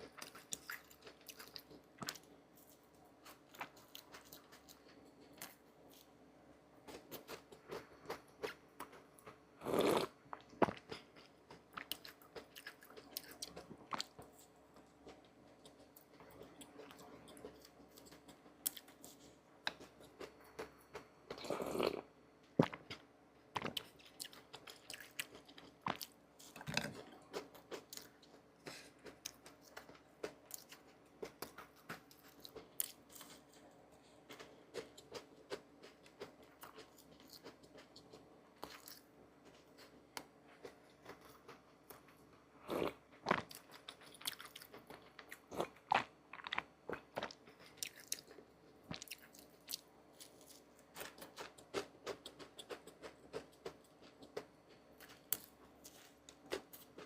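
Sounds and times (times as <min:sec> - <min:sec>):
food crunching: 0:00.0 - 0:57.0.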